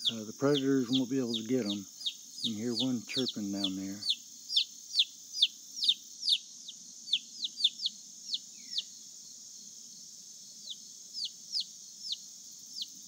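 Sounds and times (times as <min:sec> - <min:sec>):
baby chick peeping: 0:00.0 - 0:09.1, 0:10.6 - 0:13.0.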